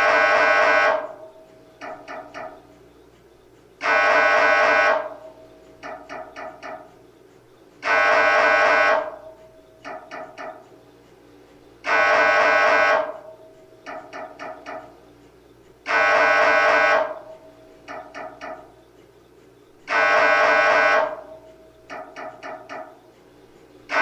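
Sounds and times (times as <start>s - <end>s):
loud mri buzzing tone: 0.0s - 24.0s.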